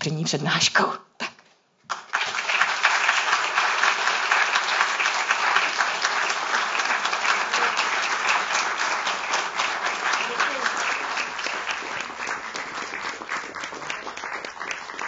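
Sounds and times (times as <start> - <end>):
audience applause: 1.9 - 15.0.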